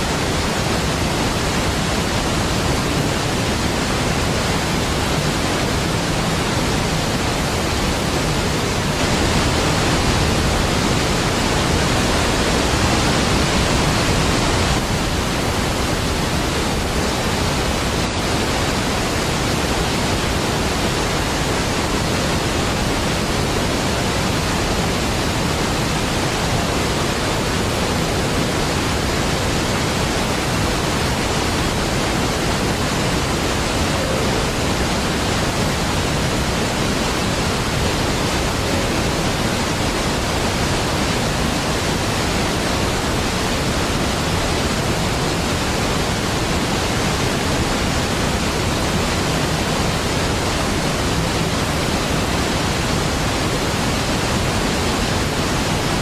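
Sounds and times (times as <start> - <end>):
large waterfall rushing: 0.0 - 56.0.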